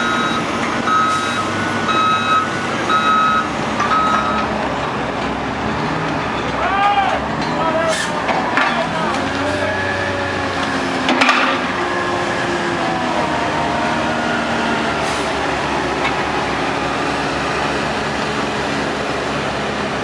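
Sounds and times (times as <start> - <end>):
diesel truck engines running: 0.0 - 20.0.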